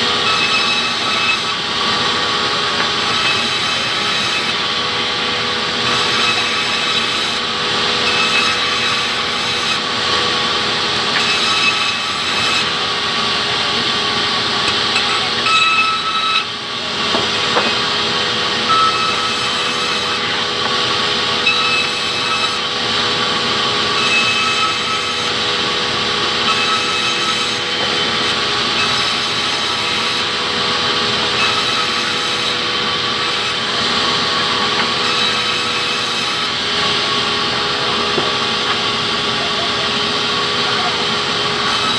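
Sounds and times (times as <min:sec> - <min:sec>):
band saw ripping boards: 0:00.1 - 0:39.1, 0:40.0 - 0:41.9.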